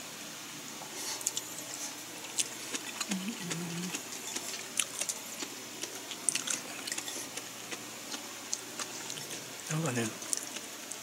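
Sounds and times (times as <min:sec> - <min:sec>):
closed-mouth hum: 0:00.8 - 0:11.0
person chewing food: 0:00.9 - 0:11.0.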